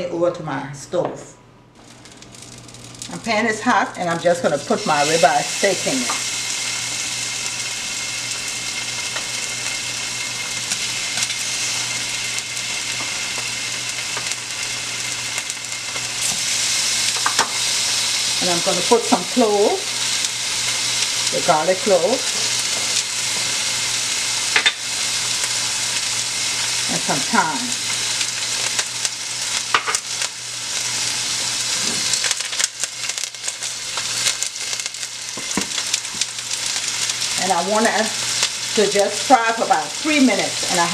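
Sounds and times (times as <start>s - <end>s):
steaks sizzling in a pan: 4.4s - 40.9s.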